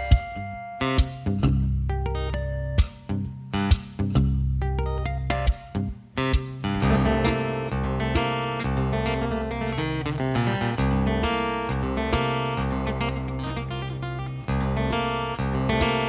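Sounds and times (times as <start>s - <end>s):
acoustic guitar plucking and strumming: 0.0s - 16.0s.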